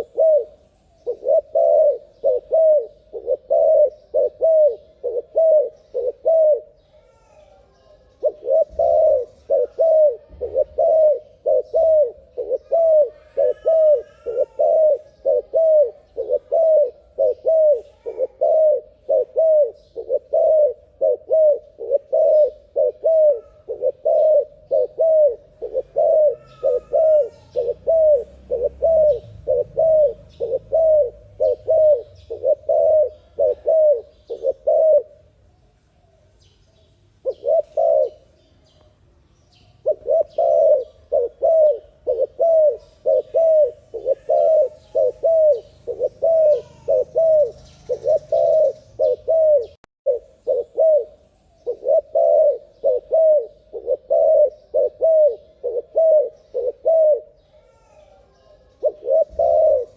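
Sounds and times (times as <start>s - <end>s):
dove cooing: 0.0s - 35.4s, 37.2s - 38.4s, 39.6s - 59.9s.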